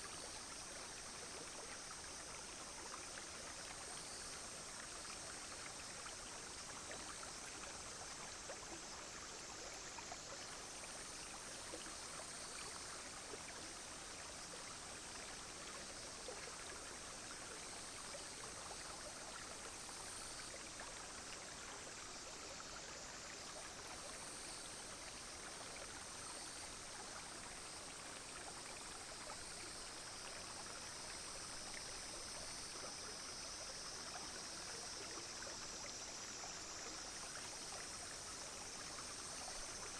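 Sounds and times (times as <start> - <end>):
brook flowing: 0.0 - 39.9
cicadas and insects droning: 0.0 - 39.9.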